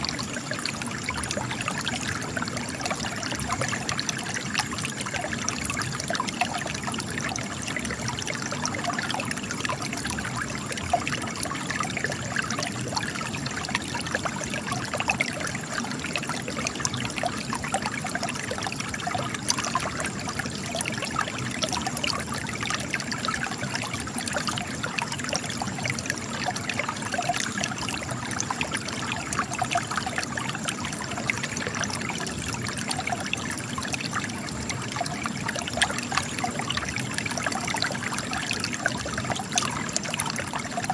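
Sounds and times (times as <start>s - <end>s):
spring water trickling and splashing: 0.0s - 40.9s.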